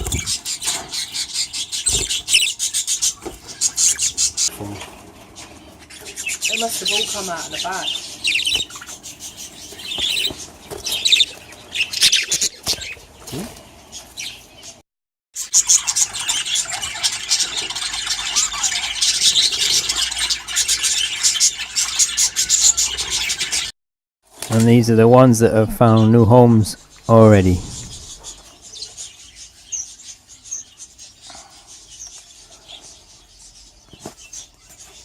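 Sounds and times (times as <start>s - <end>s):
budgerigars chirping and chattering: 0.0s - 14.8s, 15.4s - 23.7s, 24.8s - 35.0s.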